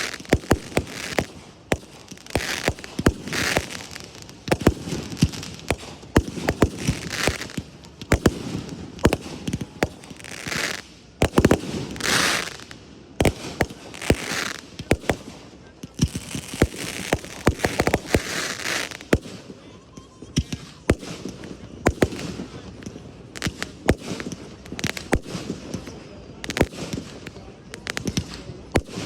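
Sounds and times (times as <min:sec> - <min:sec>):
fireworks bangs: 0:00.0 - 0:19.7, 0:20.3 - 0:29.0
fireworks hissing and crackling: 0:00.0 - 0:29.0.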